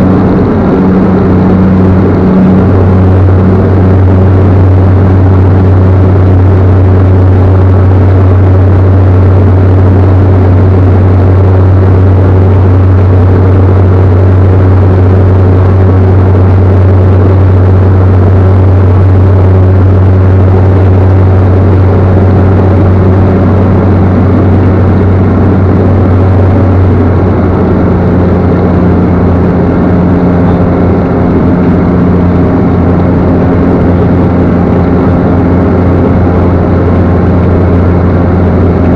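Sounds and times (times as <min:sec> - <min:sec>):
low hum: 0:00.0 - 0:38.9
turboprop engine droning: 0:00.0 - 0:38.9.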